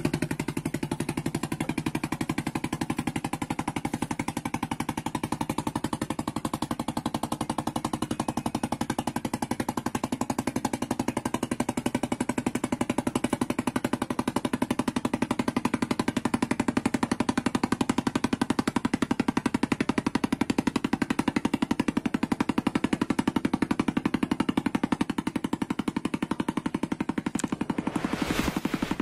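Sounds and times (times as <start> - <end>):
small engine chugging: 0.0 - 29.0.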